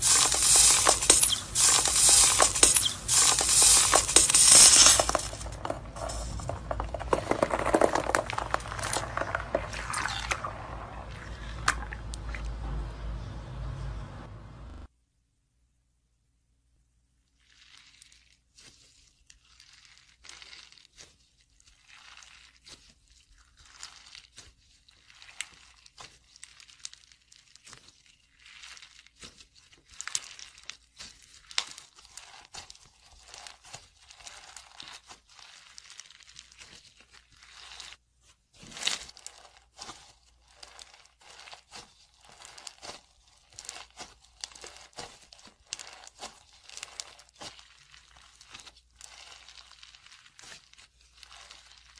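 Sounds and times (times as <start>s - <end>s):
slime crackling and crunching: 0.0s - 12.4s, 17.4s - 51.9s.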